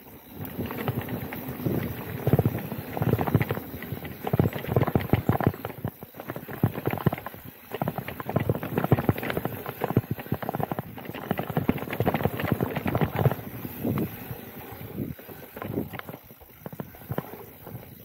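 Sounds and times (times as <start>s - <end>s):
bike rattling over bumps: 0.0s - 18.0s.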